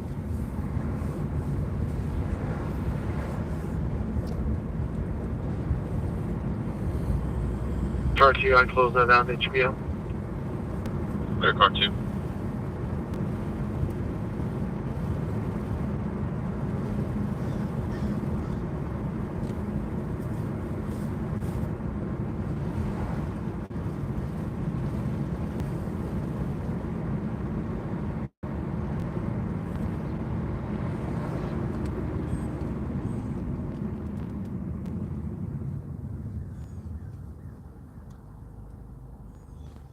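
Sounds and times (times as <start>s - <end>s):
low vehicle rumble: 0.0s - 39.9s.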